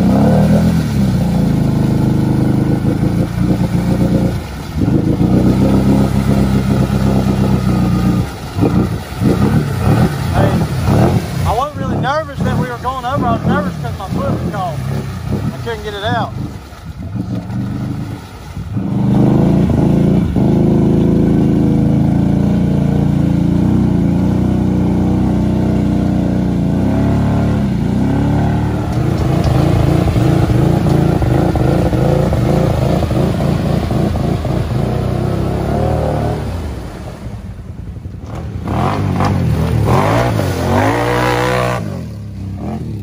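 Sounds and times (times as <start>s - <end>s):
off-road vehicle engine revving: 0.0s - 43.0s.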